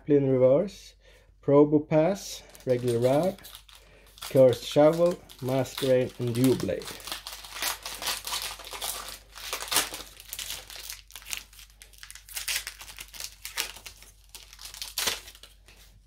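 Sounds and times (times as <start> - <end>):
foil wrapper crinkling: 2.4 - 16.0.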